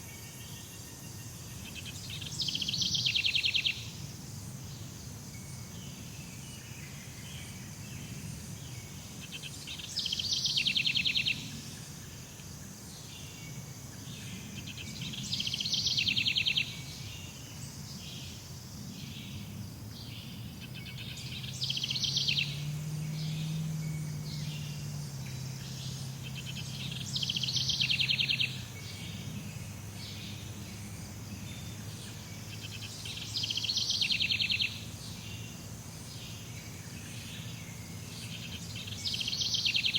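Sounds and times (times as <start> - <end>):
high insect drone: 0.0 - 39.9
insect trill of rapid pulses: 0.0 - 39.9.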